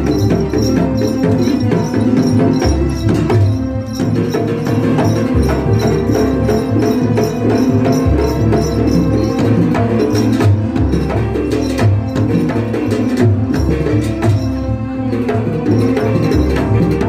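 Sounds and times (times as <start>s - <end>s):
held melodic notes: 0.0s - 17.0s
jingling metal percussion: 0.0s - 17.0s.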